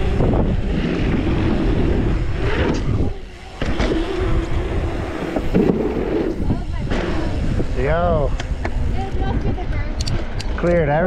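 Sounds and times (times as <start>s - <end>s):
bike tyres humming on pavement: 0.0s - 11.0s
wind rumbling on microphone: 0.0s - 11.0s.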